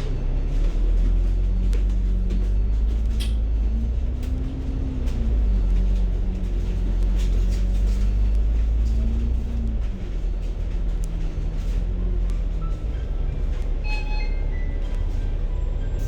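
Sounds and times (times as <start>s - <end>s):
bus engine and road rumble: 0.0s - 16.0s
light cabin rattles: 0.0s - 16.0s.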